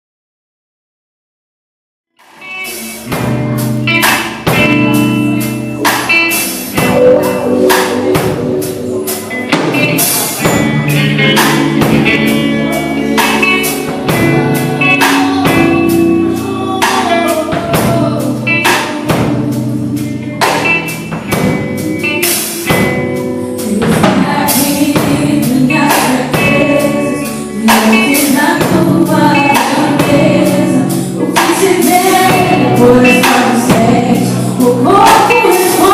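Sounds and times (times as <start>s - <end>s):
gospel band playing: 2.2s - 35.9s
people singing: 5.8s - 35.9s.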